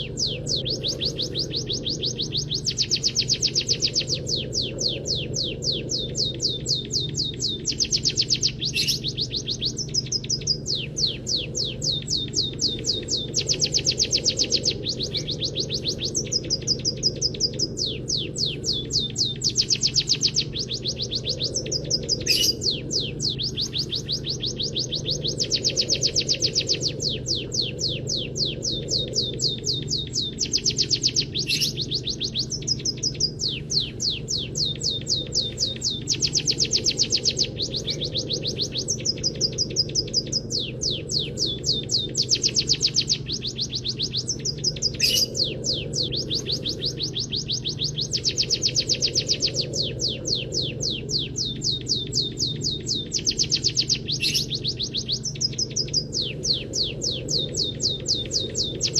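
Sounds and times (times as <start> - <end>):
bird singing high chirps: 0.0 - 58.9
steady low hum: 0.0 - 58.9.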